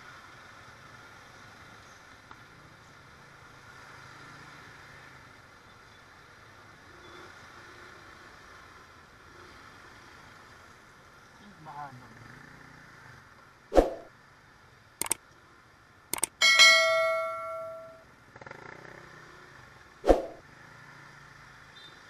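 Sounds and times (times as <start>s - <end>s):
vehicle engines at low speed: 0.0s - 22.0s.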